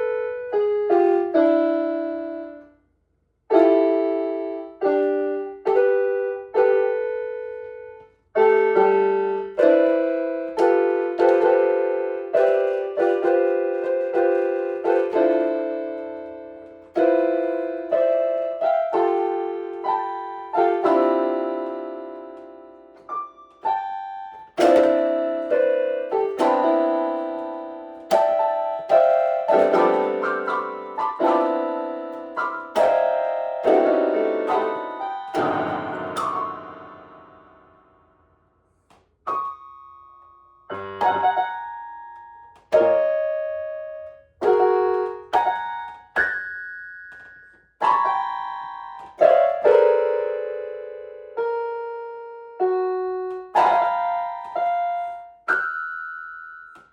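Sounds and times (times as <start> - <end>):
solo piano music: 0.0 - 2.8, 3.5 - 56.9.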